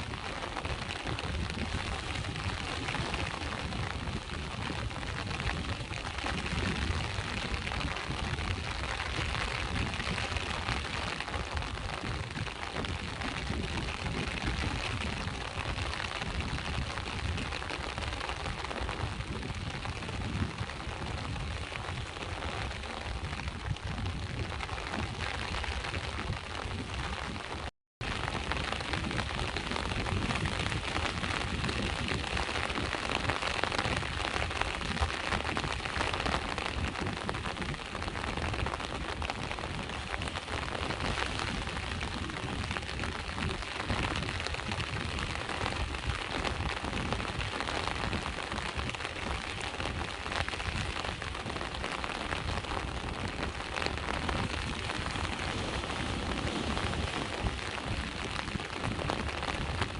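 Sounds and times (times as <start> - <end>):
sea waves washing on shore: 0.0 - 59.9
steady rain: 0.0 - 59.9.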